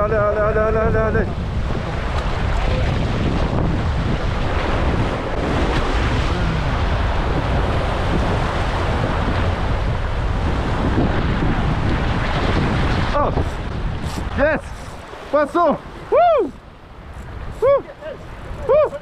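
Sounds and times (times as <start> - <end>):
sea waves rushing: 0.0 - 19.0
wind buffeting microphone: 0.0 - 19.0.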